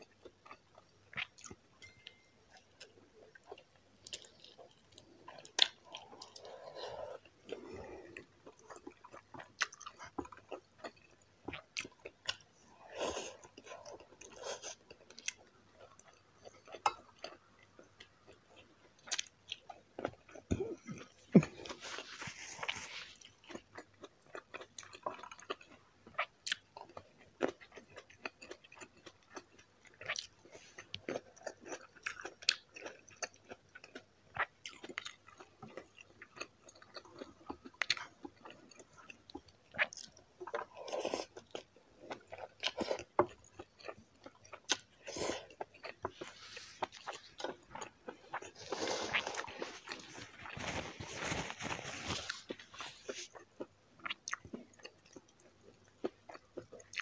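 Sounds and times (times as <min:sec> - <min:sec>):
chewing with wet clicks: 0:00.0 - 0:12.5, 0:13.3 - 0:21.7, 0:22.6 - 0:50.2, 0:52.5 - 0:57.0.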